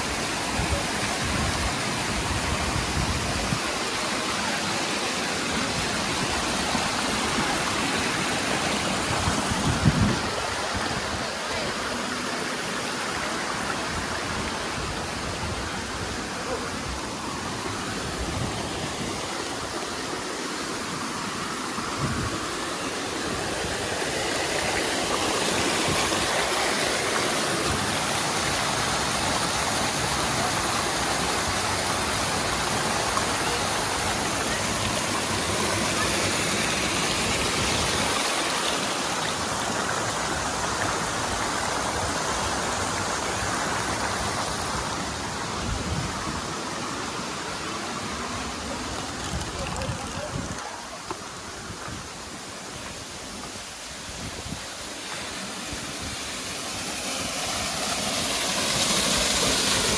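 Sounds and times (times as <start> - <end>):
waterfall and creek rushing: 0.0 - 59.9.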